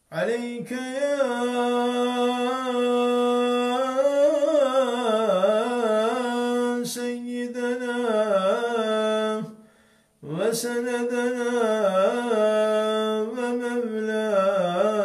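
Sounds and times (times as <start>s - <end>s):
man chanting: 0.1s - 9.6s, 10.2s - 15.0s.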